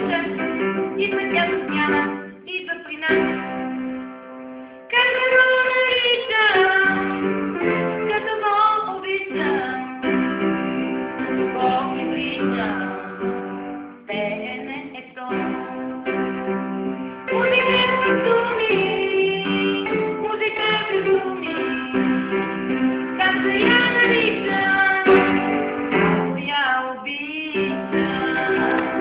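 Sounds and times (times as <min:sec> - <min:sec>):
girl singing: 0:00.0 - 0:03.5, 0:04.9 - 0:10.4, 0:11.2 - 0:13.4, 0:14.0 - 0:16.0, 0:17.2 - 0:25.5, 0:26.4 - 0:29.0
piano chords: 0:00.0 - 0:29.0.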